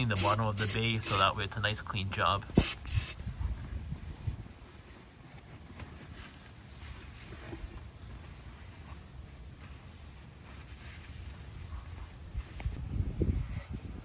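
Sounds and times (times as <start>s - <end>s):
faint rubbing and scuffing: 2.4s - 14.0s.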